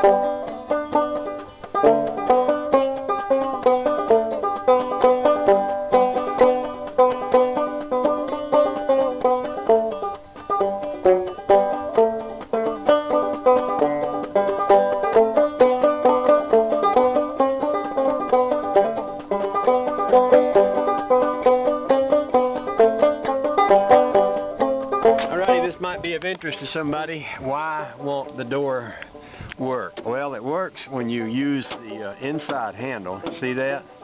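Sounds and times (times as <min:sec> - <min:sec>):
plucked banjo tune: 0:00.0 - 0:25.9, 0:27.8 - 0:34.0.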